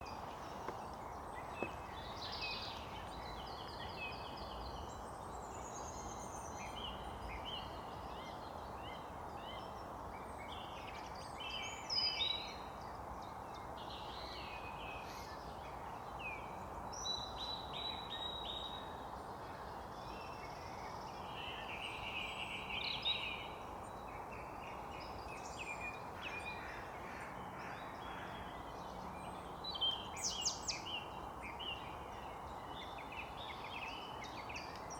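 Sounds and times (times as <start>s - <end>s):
birds singing: 0.0s - 34.9s.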